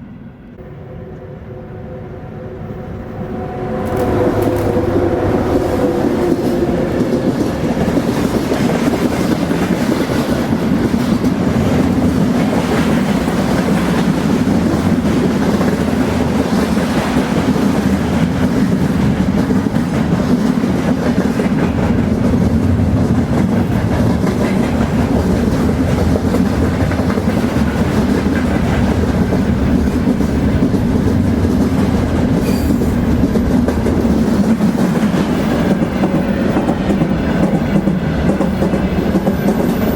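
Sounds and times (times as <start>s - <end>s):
train wheels rumbling on rails: 2.6s - 39.9s
clickety-clack of train: 3.7s - 39.9s.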